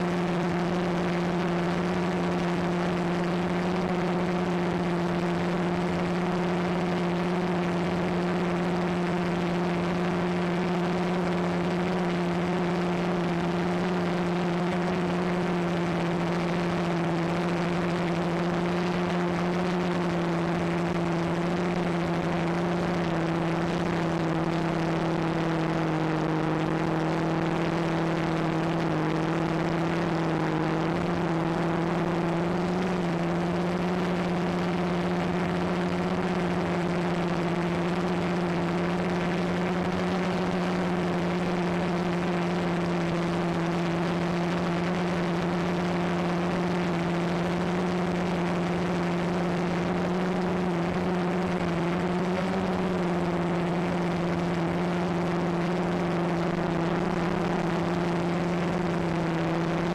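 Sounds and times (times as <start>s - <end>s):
drone motors humming in flight: 0.0s - 59.9s.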